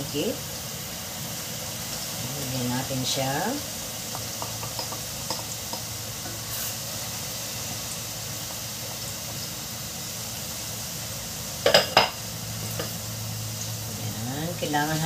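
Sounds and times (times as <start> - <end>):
garlic sizzling in oil: 0.0 - 15.0.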